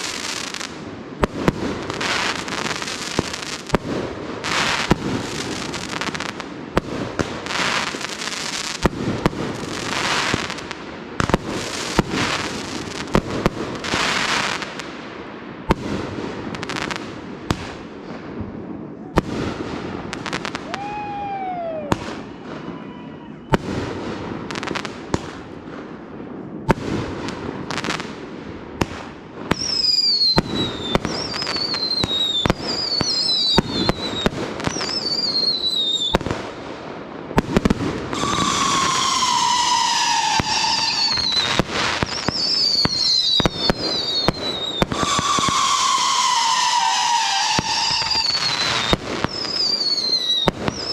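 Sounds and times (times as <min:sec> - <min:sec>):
falling whistles of fireworks: 0:00.0 - 0:15.0, 0:15.6 - 0:25.8, 0:28.8 - 0:50.9
fireworks bangs: 0:00.0 - 0:50.9
fireworks crackling: 0:00.0 - 0:50.9.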